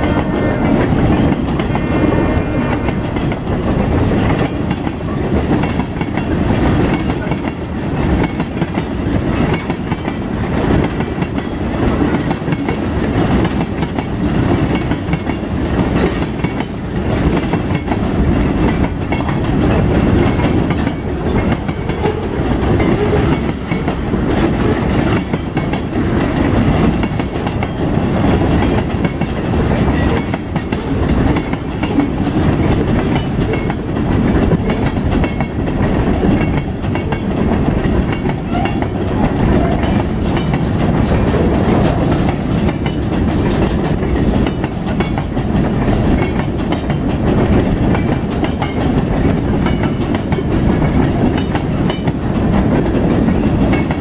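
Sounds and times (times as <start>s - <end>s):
freight train rumbling past: 0.0s - 54.0s
steel wheels clattering on rails: 0.0s - 54.0s.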